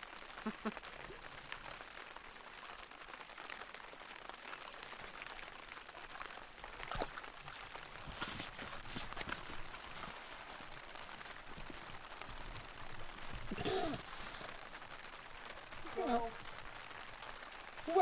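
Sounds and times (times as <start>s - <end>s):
light rain hiss: 0.0s - 18.0s
raindrops ticking: 0.0s - 18.0s.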